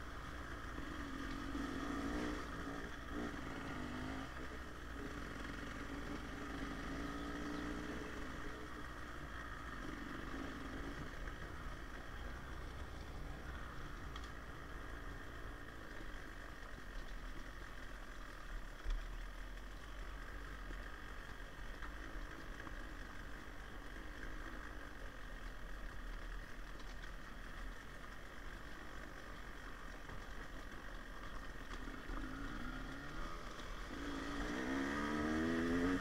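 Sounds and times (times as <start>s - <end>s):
dirt bike engine running: 0.0s - 36.0s.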